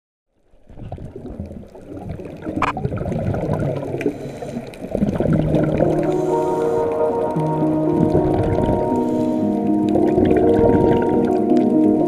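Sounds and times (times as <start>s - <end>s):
underwater bubbles gurgling: 0.4s - 12.0s.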